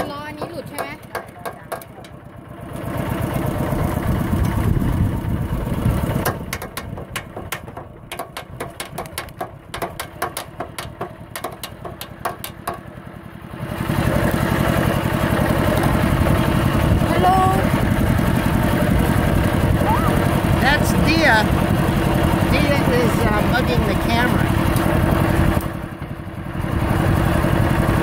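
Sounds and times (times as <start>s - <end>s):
diesel tractor engine putter: 0.0s - 28.0s.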